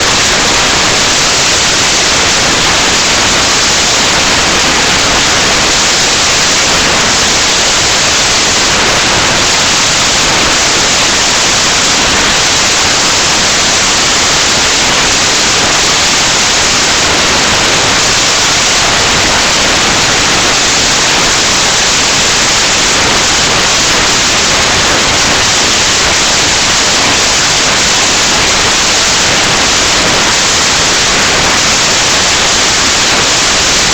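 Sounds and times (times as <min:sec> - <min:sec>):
loud static hiss: 0:00.0 - 0:33.9.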